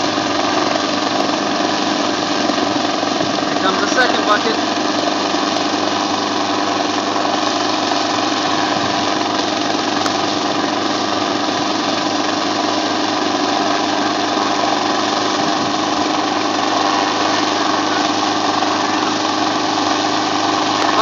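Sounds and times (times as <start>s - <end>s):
helicopter hovering overhead: 0.0s - 21.0s.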